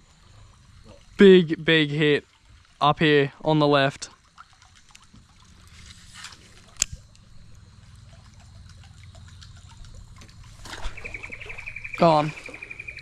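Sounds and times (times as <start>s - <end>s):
creek water trickling: 0.0s - 13.0s.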